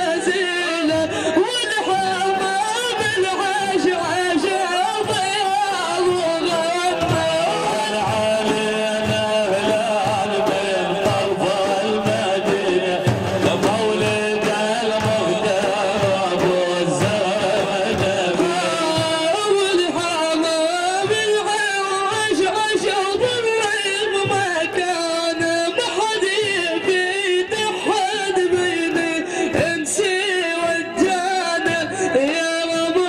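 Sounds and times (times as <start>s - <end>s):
man singing devotional melody: 0.0s - 33.0s
drum beat: 0.1s - 33.0s.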